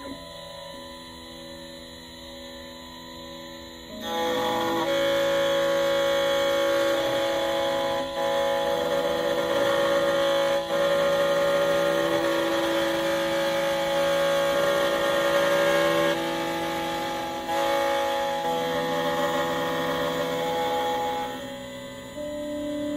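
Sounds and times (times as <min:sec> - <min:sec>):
key cutting machine motor whine: 0:00.0 - 0:22.9.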